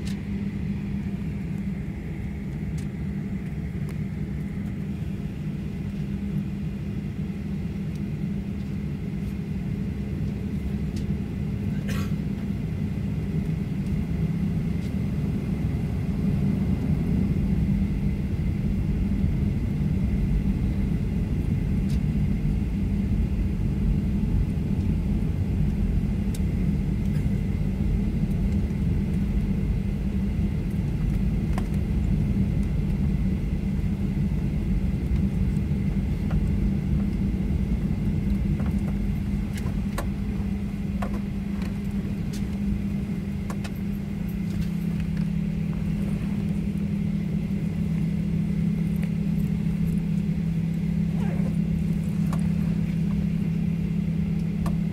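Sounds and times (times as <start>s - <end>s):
jet engines low rumble in cabin: 0.0s - 54.9s.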